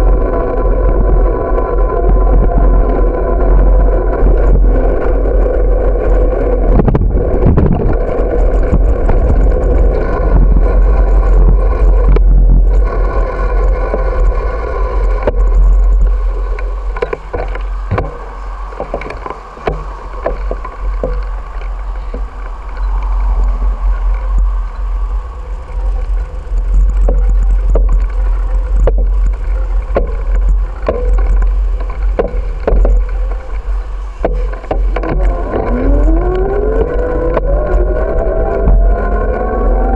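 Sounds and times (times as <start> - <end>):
wind buffeting microphone: 0.0 - 39.9
rattling clicks over bumps: 6.8 - 24.8, 25.6 - 39.9.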